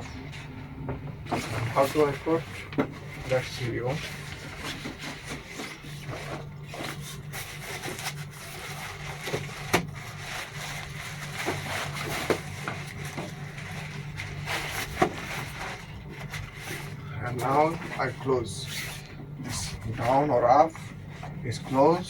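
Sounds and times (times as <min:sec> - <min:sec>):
low steady hum: 0:00.0 - 0:22.0
plastic parts rubbing and scraping: 0:01.2 - 0:22.0.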